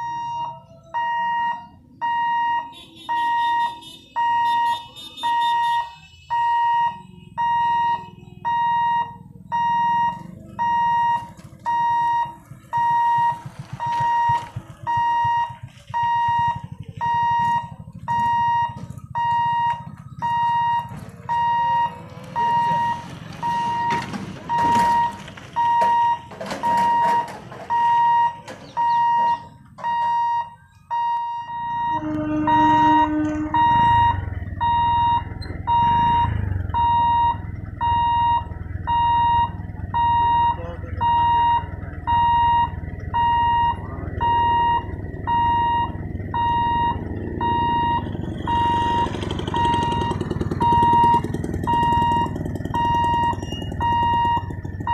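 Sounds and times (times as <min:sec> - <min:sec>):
level crossing warning beeps: 0:00.0 - 0:54.9.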